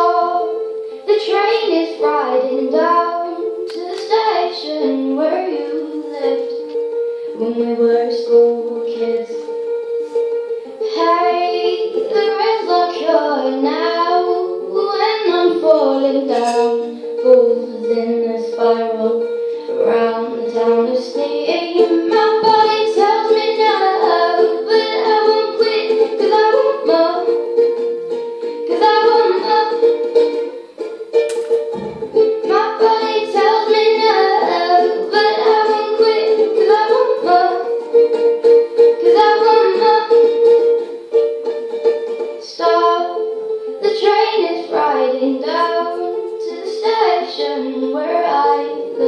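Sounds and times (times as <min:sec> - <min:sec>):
girl singing: 0:00.0 - 0:09.8, 0:10.6 - 0:30.7, 0:31.6 - 0:49.0
ukulele playing: 0:00.0 - 0:49.0.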